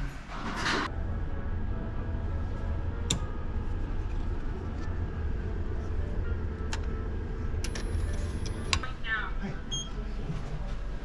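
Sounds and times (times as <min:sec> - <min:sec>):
low rumble: 0:00.3 - 0:11.0.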